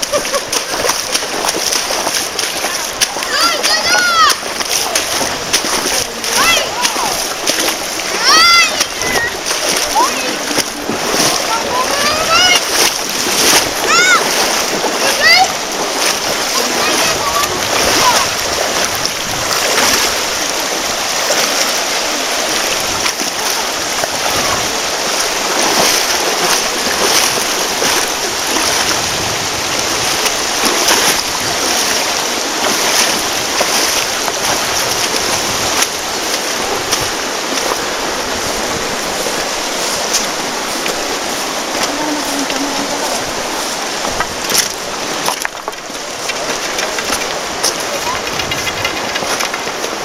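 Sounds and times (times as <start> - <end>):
river rushing: 0.0 - 50.0
stick scraping and splashing in water: 0.0 - 50.0.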